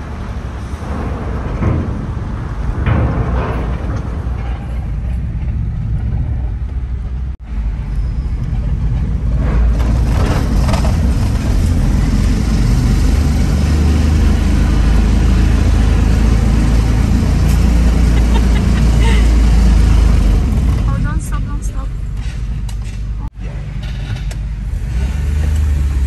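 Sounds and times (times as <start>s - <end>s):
low rumble of car on ramp: 0.0s - 26.0s.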